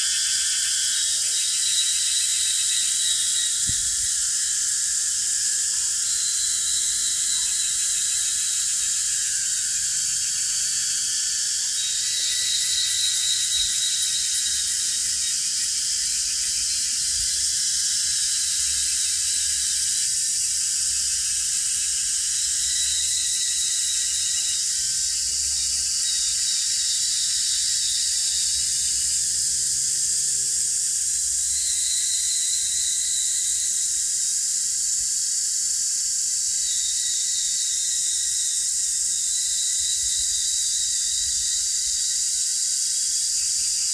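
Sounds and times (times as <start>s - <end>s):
cicadas chorus: 0.0s - 43.9s.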